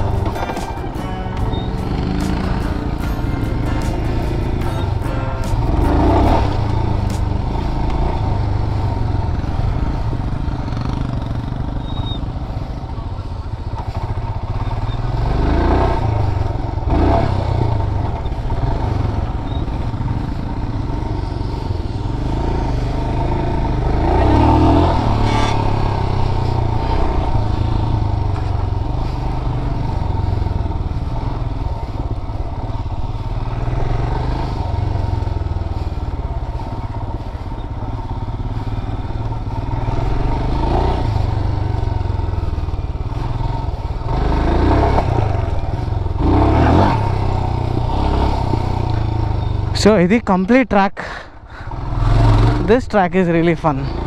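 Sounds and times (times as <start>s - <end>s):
motorcycle engine running: 0.0s - 50.5s, 51.3s - 54.0s.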